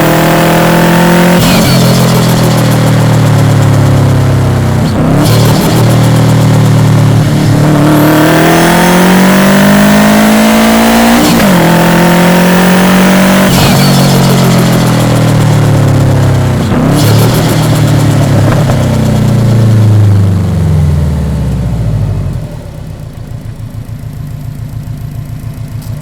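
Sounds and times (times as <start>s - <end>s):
car engine revving up: 0.0s - 23.0s.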